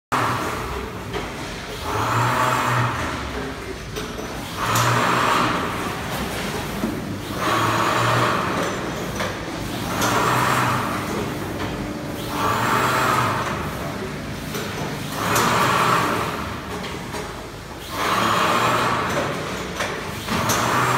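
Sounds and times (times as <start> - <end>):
packing machine running: 0.2 - 20.9.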